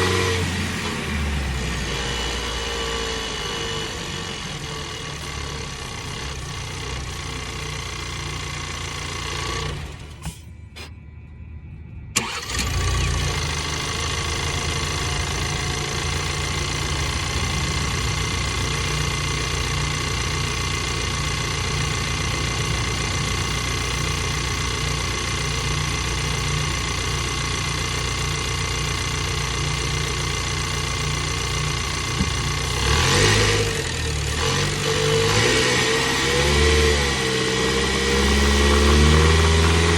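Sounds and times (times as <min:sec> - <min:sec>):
engine revving: 0:00.0 - 0:10.4, 0:12.2 - 0:39.9
car engine starting and idling: 0:00.0 - 0:39.9.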